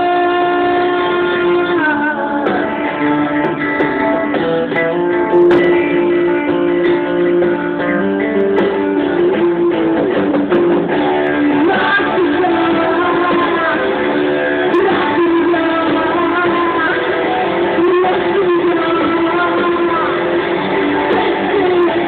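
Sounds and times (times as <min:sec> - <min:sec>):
guitar band music: 0:00.0 - 0:22.0.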